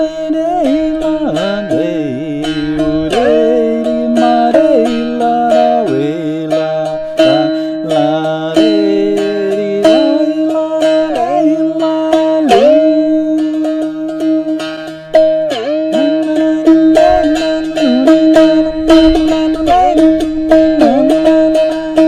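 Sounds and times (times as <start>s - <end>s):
plucked string instrument: 0.0s - 22.0s.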